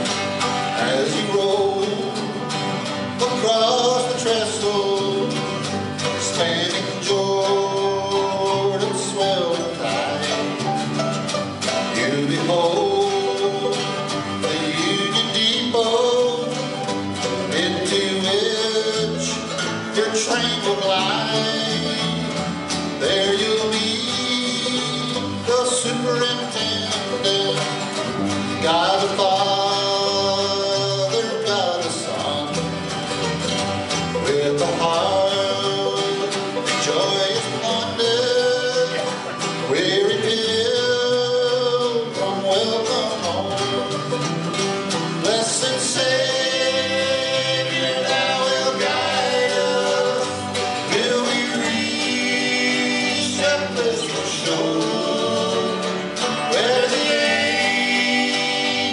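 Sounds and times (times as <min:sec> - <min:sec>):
bluegrass band playing gospel song: 0:00.0 - 0:58.9.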